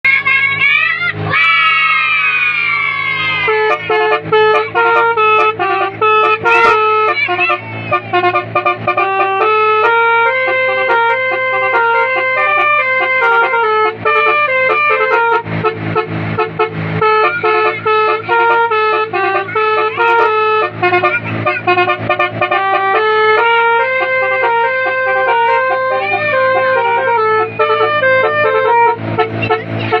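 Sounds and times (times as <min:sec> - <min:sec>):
multi-tone horn melody: 0:03.4 - 0:30.0.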